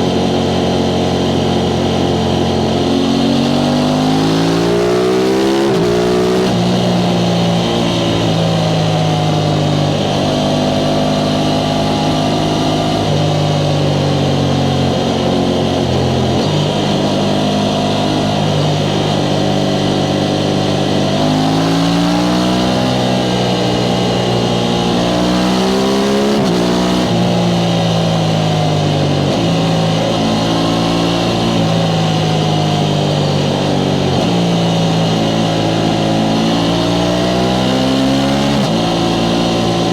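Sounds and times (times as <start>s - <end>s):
motorcycle engine riding along: 0.0s - 39.9s.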